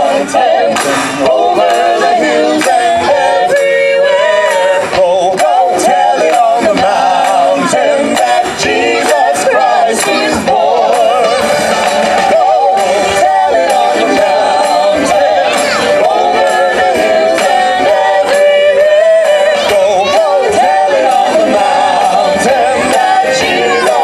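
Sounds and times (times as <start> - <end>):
vocal quartet singing in harmony: 0.0 - 24.0.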